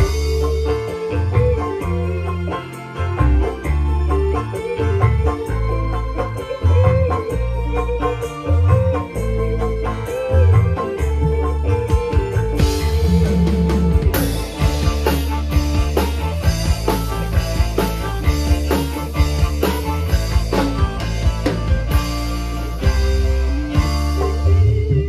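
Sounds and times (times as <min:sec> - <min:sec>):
drum kit beat: 0:00.0 - 0:25.0
live band through pa: 0:00.0 - 0:25.0.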